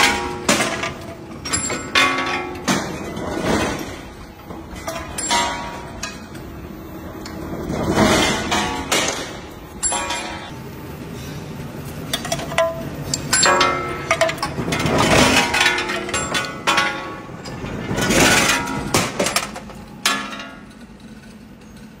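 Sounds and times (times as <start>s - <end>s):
metal clanks and clinks: 0.0s - 6.6s, 7.2s - 10.6s, 12.1s - 22.0s
forging machine noise: 0.0s - 22.0s.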